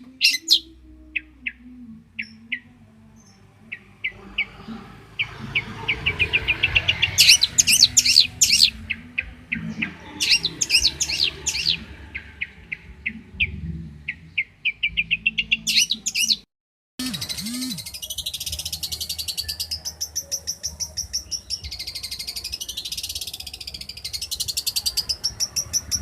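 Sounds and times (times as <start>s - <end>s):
bird singing sharp chirps: 0.0s - 0.7s, 2.2s - 13.5s, 14.1s - 26.0s
dense bird trill: 0.0s - 1.6s, 2.2s - 26.0s.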